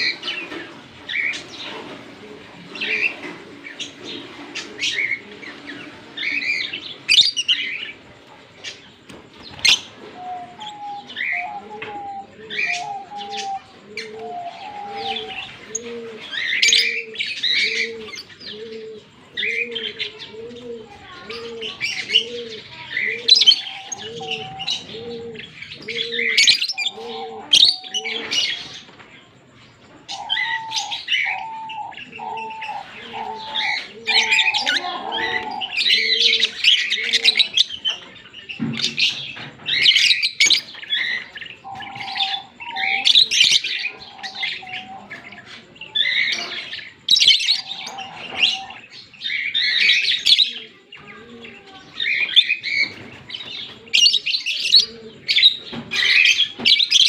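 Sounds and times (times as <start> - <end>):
birds chirping shrilly: 8.7 - 28.9, 30.1 - 57.0.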